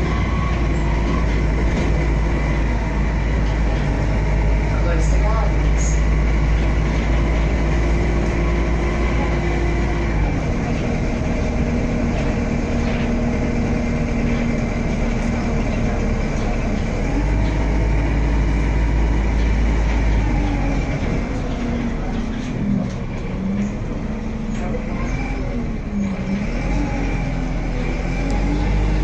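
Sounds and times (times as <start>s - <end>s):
bus engine hum: 0.0s - 29.0s
road rumble: 0.0s - 29.0s.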